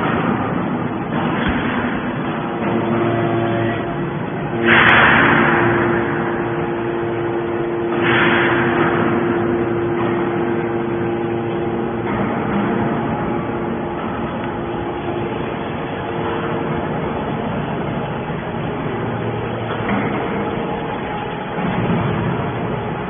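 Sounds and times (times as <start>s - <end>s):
hydraulic press rushing surges: 0.0s - 23.0s
hydraulic pump hum: 0.0s - 23.0s.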